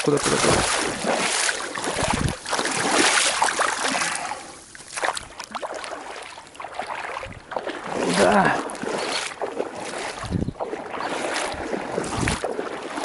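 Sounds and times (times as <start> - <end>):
water splashing beside boat: 0.0 - 13.0.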